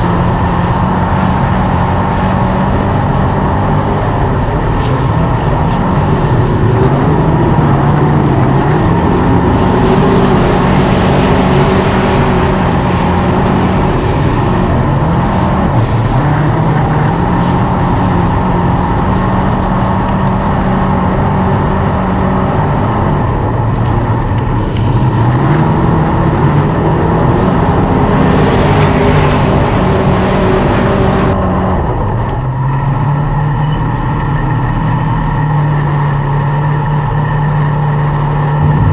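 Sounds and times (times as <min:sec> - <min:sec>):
race car engines running hard: 0:00.0 - 0:38.9.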